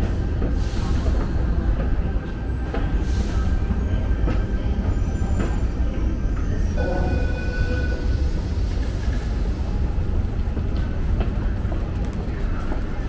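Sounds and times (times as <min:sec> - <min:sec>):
low rumble of underground station: 0:00.0 - 0:13.0.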